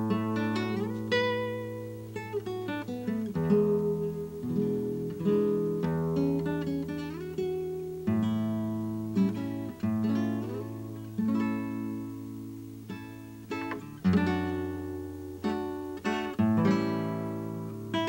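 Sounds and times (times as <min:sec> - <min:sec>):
acoustic guitar fingerstyle: 0:00.0 - 0:18.0.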